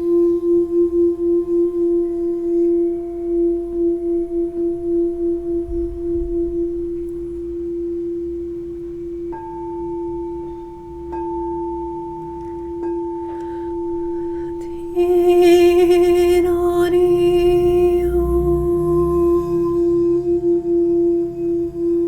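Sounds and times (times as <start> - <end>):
high wavering tones: 0.0 - 22.0
higher ringing tone: 0.0 - 22.0
low ringing tone: 0.0 - 22.0.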